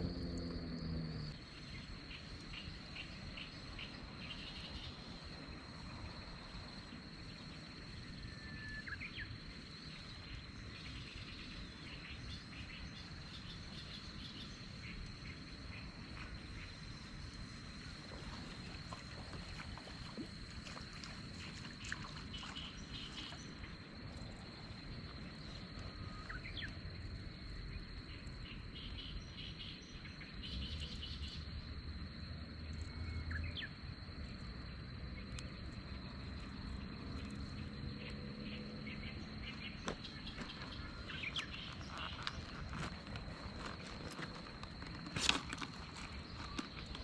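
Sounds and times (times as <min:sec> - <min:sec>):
high insect trill: 0:00.0 - 0:47.0
low wind rumble: 0:00.0 - 0:47.0.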